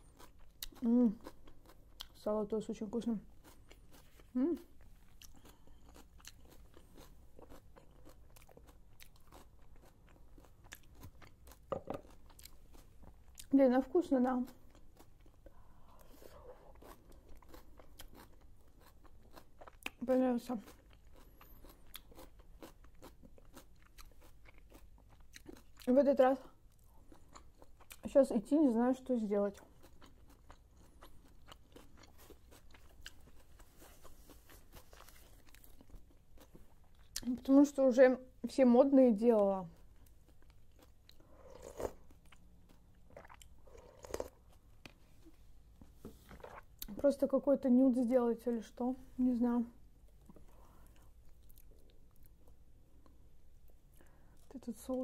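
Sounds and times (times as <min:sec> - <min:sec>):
chewing crunchy cabbage salad: 0:00.0 - 0:37.9, 0:39.3 - 0:47.3, 0:50.0 - 0:55.0.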